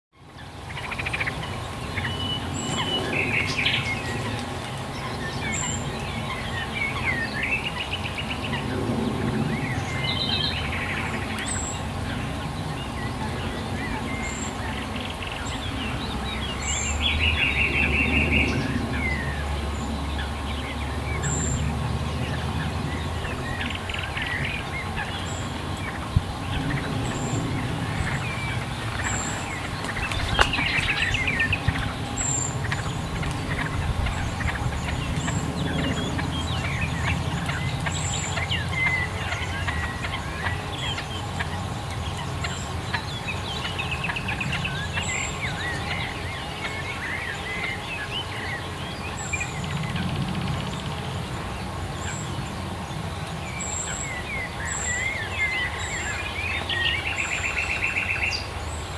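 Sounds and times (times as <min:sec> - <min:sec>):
birds chirping and trilling: 0:00.2 - 0:58.9
low steady rumble: 0:00.3 - 0:57.8.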